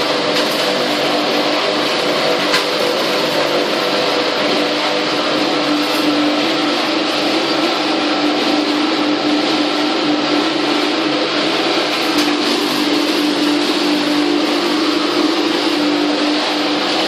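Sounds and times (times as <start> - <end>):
pulverizer machine whirring: 0.0 - 17.0.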